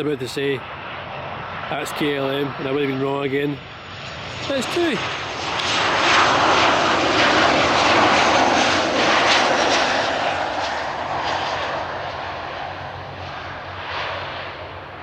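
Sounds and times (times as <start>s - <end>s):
passenger jet engine: 0.0s - 15.0s.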